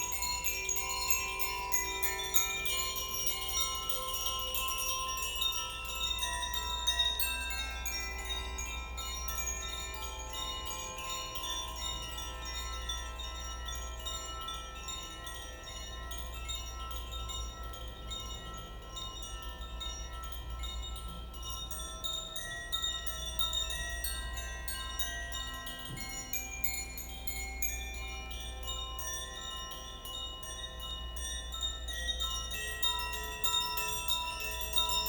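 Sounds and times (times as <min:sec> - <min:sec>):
chimes ringing: 0:00.0 - 0:35.0.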